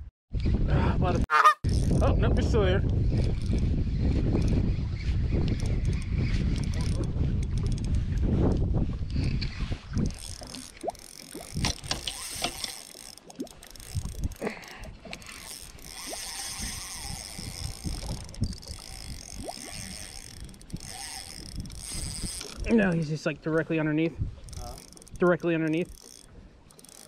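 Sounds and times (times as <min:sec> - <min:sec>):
fishing reel gears whirring: 0:01.6 - 0:23.2, 0:24.4 - 0:27.0.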